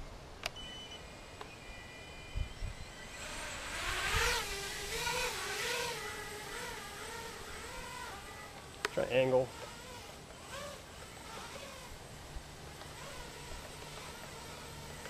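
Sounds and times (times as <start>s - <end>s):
quadcopter motors whirring: 0.3s - 15.0s.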